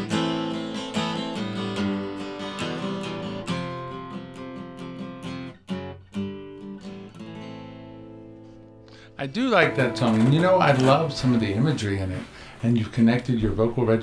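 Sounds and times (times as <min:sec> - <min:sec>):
acoustic guitar strumming chords: 0:00.0 - 0:12.6.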